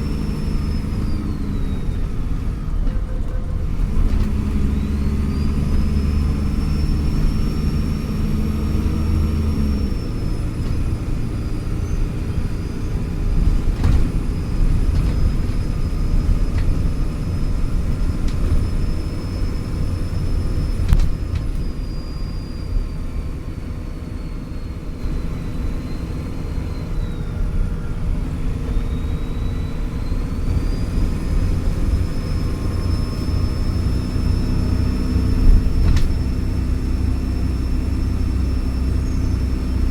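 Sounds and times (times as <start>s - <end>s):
turbocharger whistle: 0.0s - 2.8s, 3.8s - 13.5s, 14.5s - 39.9s
bus diesel engine rumble: 0.0s - 39.9s.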